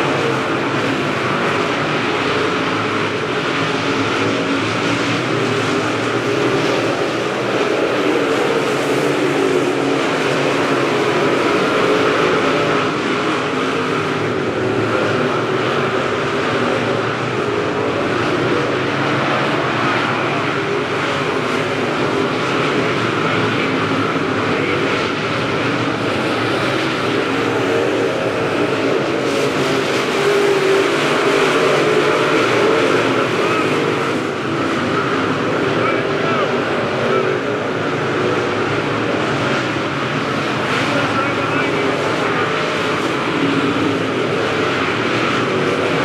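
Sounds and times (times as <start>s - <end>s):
race car engines roaring: 0.0s - 46.0s.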